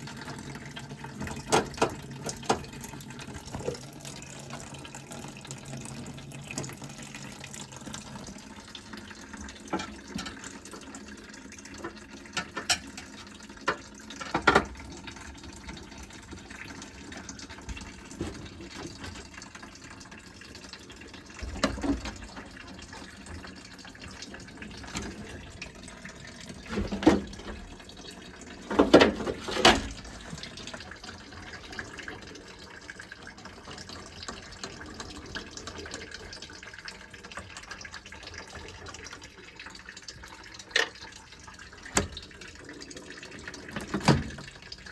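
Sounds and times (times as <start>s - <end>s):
water draining from boiler: 0.0s - 44.9s.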